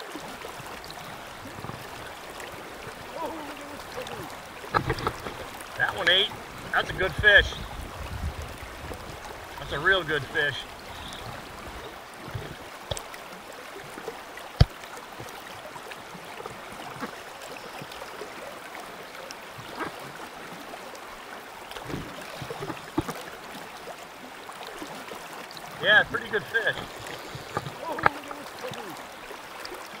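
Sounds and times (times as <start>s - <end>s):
creek flowing: 0.0s - 30.0s.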